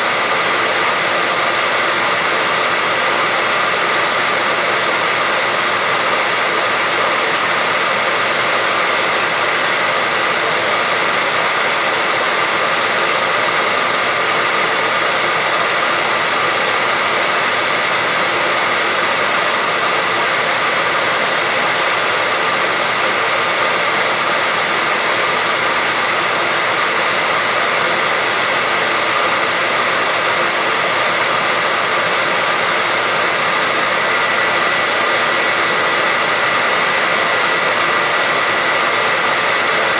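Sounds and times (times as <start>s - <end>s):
hair dryer running: 0.0s - 39.9s
high fan whine: 0.0s - 39.9s.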